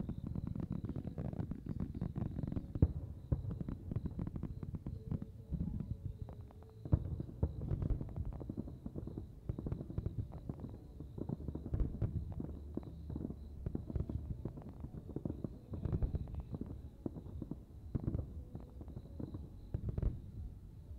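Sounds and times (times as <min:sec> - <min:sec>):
fireworks bursting and crackling: 0:00.0 - 0:20.9.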